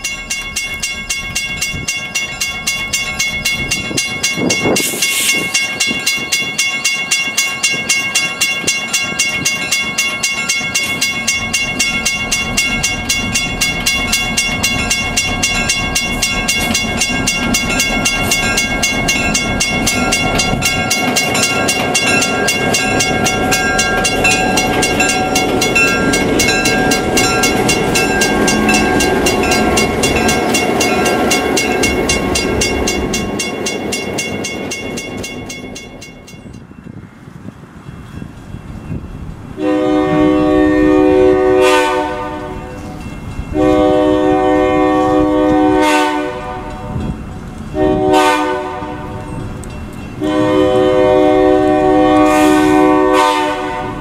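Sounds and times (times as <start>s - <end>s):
crossing bell ringing: 0.0s - 37.0s, 37.8s - 54.0s
diesel locomotive passing: 0.0s - 54.0s.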